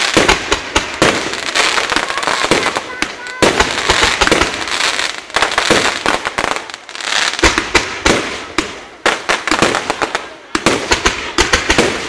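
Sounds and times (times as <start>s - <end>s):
fireworks bangs: 0.0s - 12.0s
fireworks hissing crackle: 0.0s - 12.0s.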